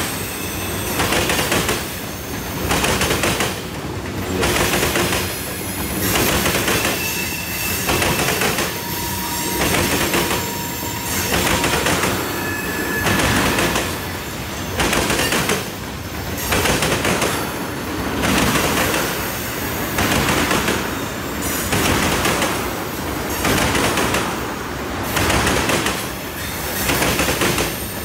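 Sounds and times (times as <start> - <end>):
train wheels clattering: 0.8 - 24.4, 25.1 - 28.0.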